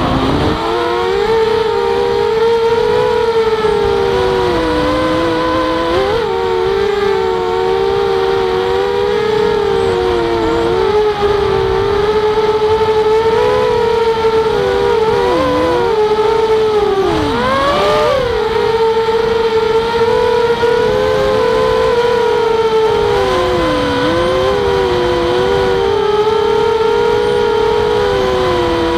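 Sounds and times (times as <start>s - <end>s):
drone motors whining: 0.0s - 28.9s.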